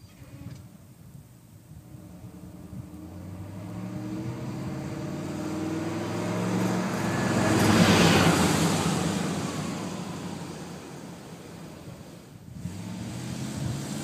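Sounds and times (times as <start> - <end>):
tyre and road noise: 0.0 - 14.0
car engine accelerating: 1.7 - 14.0.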